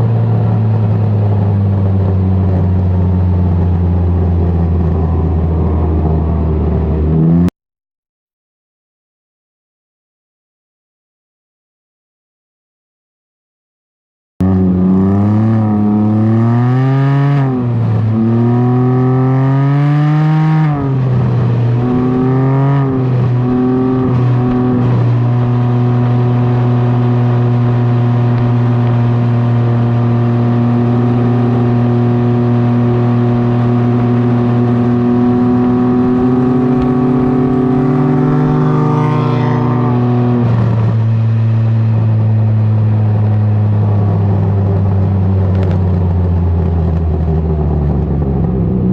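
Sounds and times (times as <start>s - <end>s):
three-wheeler engine accelerating: 0.0s - 7.5s, 14.4s - 48.9s.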